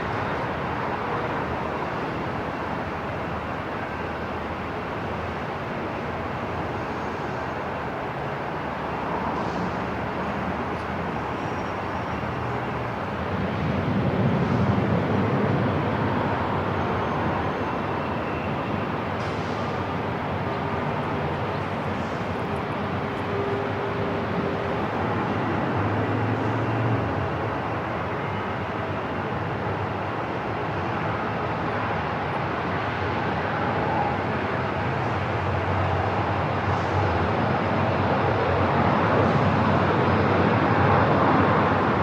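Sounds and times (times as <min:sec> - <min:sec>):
airport terminal ambience: 0:00.0 - 0:42.0.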